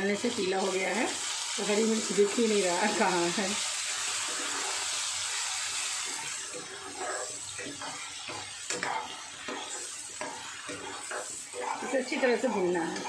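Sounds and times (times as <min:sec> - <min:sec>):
paste sizzling in hot oil: 0:00.0 - 0:13.0
spatula scraping pan: 0:01.8 - 0:13.0.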